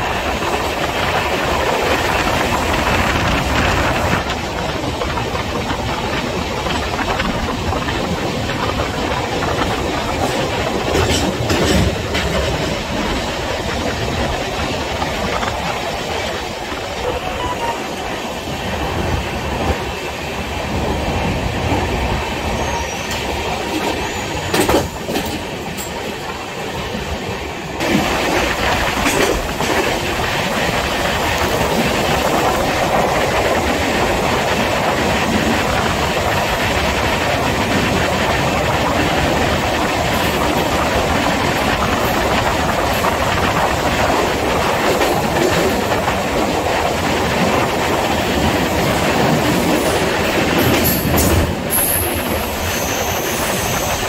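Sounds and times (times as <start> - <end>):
train wheels rumbling in tunnel: 0.0 - 54.0.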